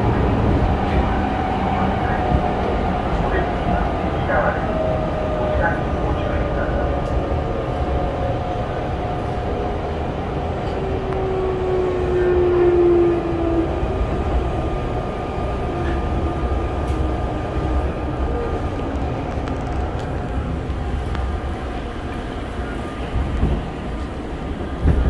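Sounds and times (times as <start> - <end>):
train rumble with inverter whine: 0.0 - 25.0.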